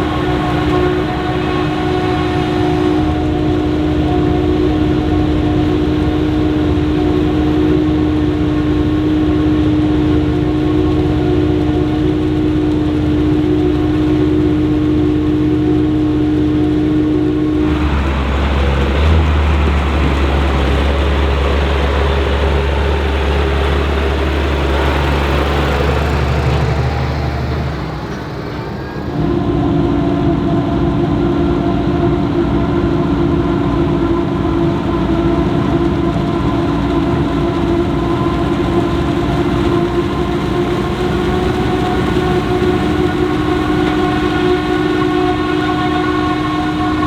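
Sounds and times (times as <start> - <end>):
deep engine rumble: 0.0 - 47.0
high machine whine: 0.0 - 47.0.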